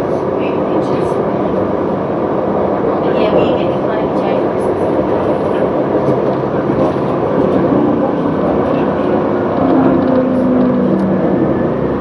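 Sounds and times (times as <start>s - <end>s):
tram wheels rumbling: 0.0s - 12.0s.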